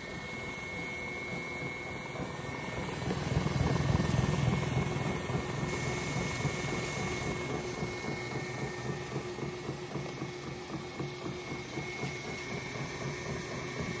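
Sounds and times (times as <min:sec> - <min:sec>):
label rewinder motor whirring: 0:00.0 - 0:14.0.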